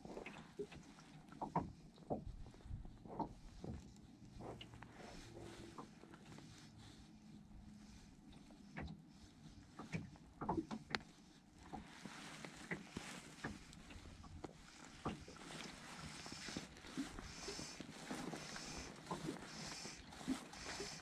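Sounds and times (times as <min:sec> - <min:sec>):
waves lapping against boat hull: 0:00.0 - 0:21.0.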